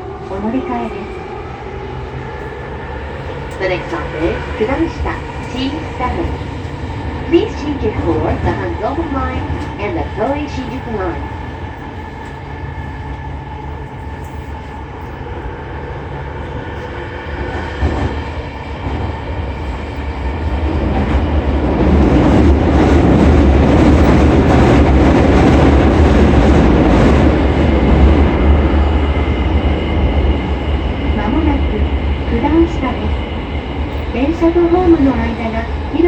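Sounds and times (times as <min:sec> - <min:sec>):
train rumble and wheel-on-rail noise: 0:00.0 - 0:36.0.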